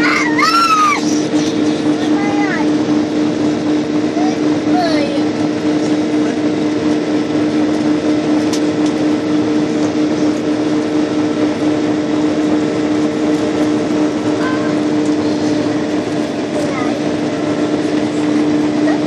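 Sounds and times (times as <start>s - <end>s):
aircraft engine drone: 0.0s - 19.0s.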